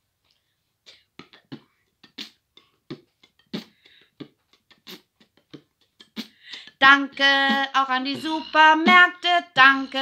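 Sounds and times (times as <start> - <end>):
quiet beatboxing: 0.2 - 10.0
person singing: 1.2 - 10.0.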